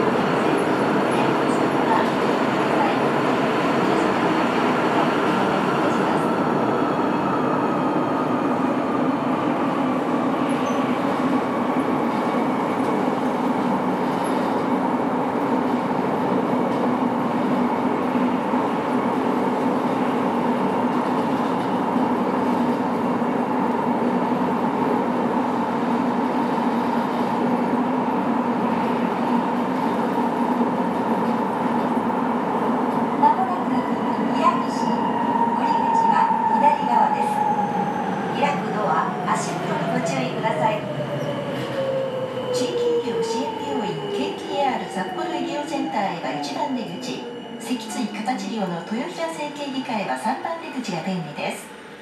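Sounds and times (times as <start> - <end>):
subway train rumble and whine: 0.0 - 52.0.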